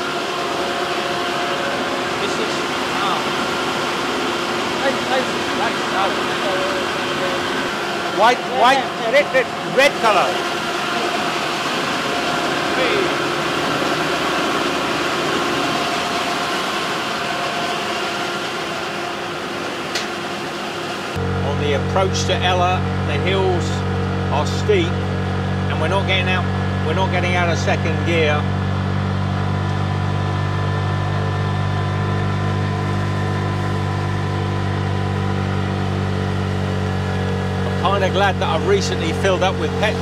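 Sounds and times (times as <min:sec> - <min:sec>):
rice milling machinery running: 0:00.0 - 0:40.0.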